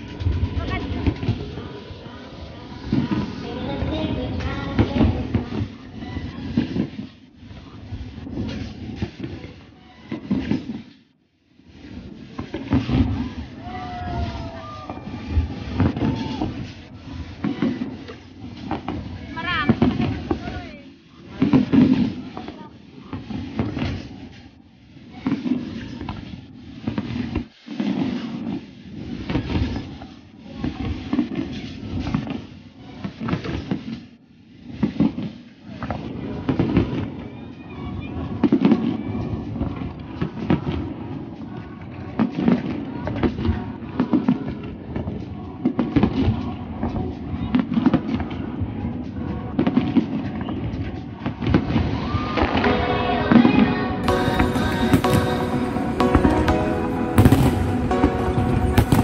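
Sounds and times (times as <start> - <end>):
fireworks booming and crackling: 0.0 - 10.9, 11.7 - 37.3, 37.9 - 52.8, 54.0 - 59.0
loud fireworks reports: 0.0 - 59.0.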